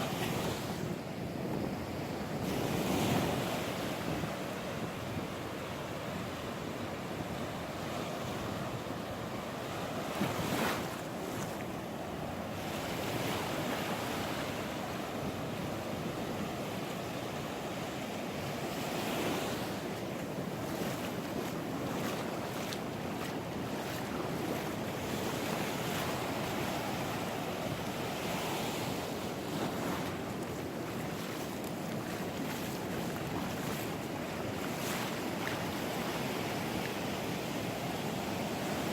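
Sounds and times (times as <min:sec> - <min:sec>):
ocean surf washing ashore: 0:00.0 - 0:38.9.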